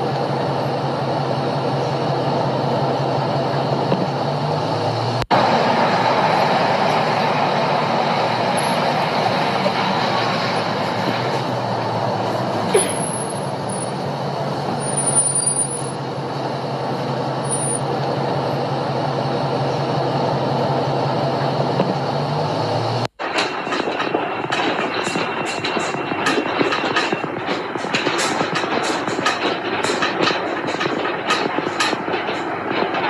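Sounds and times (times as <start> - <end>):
car driving road noise: 0.0 - 33.0.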